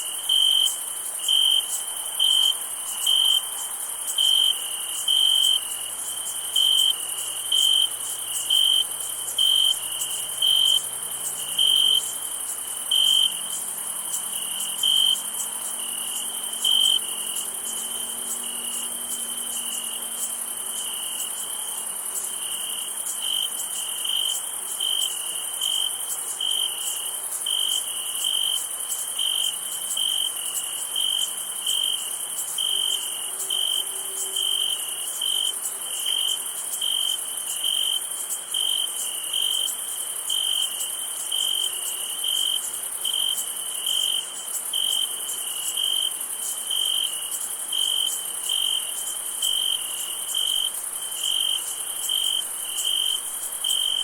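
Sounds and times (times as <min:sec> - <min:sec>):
cricket chirping: 0:00.0 - 0:54.0
insect chorus: 0:00.0 - 0:54.0.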